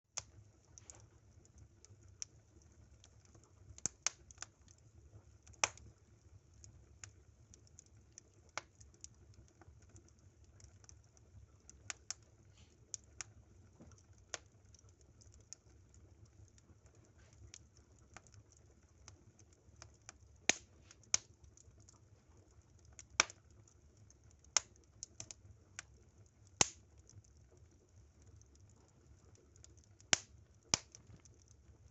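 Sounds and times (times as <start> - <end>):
firewood crackling and popping: 0.1 - 31.9.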